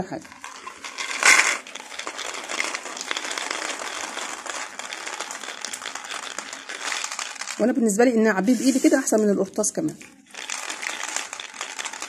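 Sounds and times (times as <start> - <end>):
dried beans rattling: 0.0 - 12.0.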